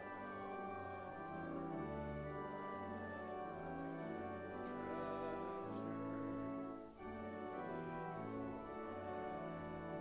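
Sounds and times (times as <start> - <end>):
church organ chords: 0.0 - 10.0.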